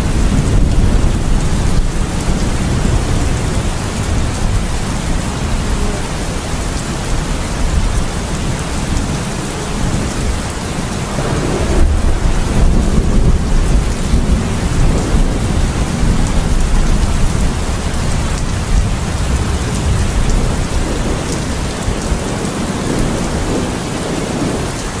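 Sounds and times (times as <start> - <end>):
hiss of rain: 0.0 - 25.0
low thunder rumbling: 0.0 - 25.0.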